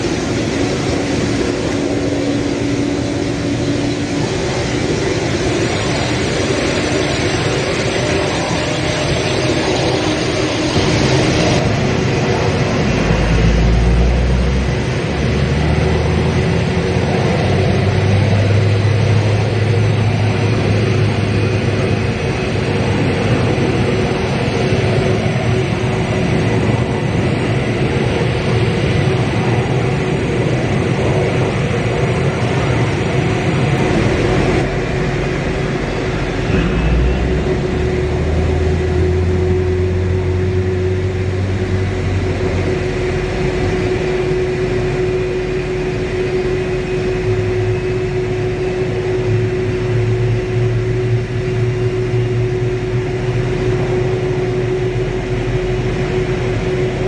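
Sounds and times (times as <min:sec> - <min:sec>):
jet turbine whine and rumble: 0:00.0 - 0:57.0.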